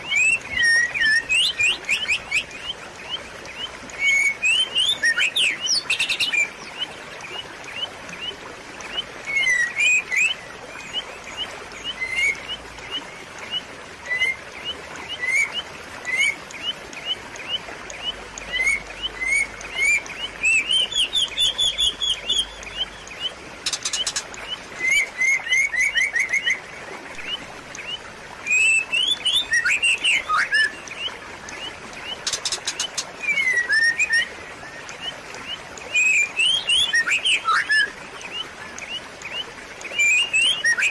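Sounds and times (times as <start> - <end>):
small birds chirping: 0.0 - 40.9
trickle of flowing water: 0.0 - 40.9.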